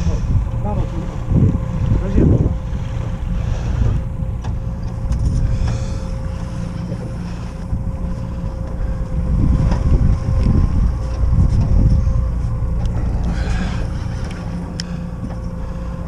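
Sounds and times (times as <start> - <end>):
faint steady hum: 0.0 - 16.0
wind buffeting microphone: 0.0 - 16.0.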